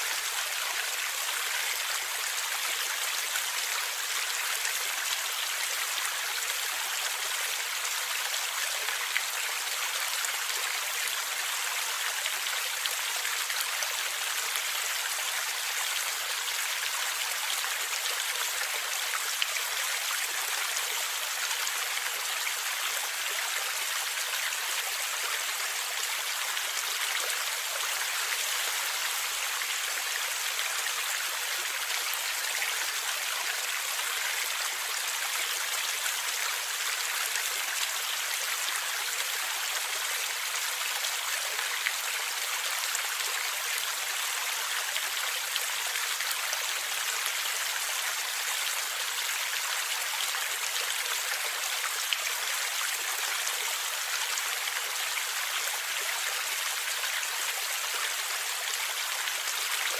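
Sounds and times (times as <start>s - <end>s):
stream flowing and gurgling: 0.0s - 59.9s.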